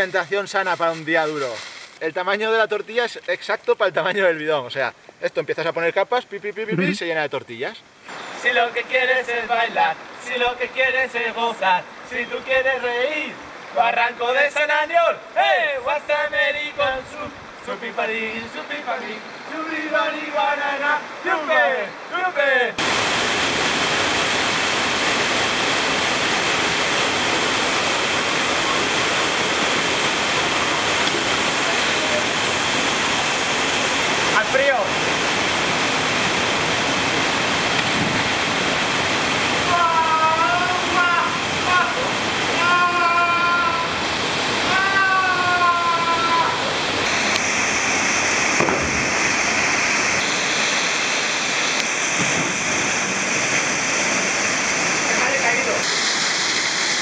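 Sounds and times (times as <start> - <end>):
waterfall rushing into a pool: 0.0 - 16.7, 17.9 - 57.0.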